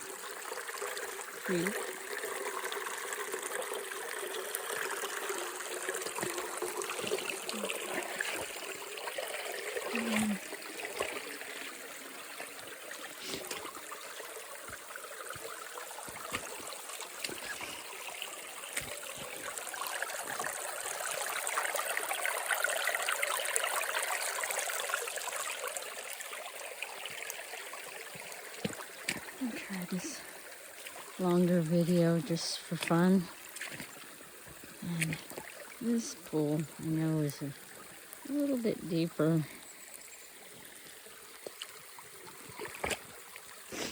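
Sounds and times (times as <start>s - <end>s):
creek water trickling over rocks: 0.0s - 43.9s.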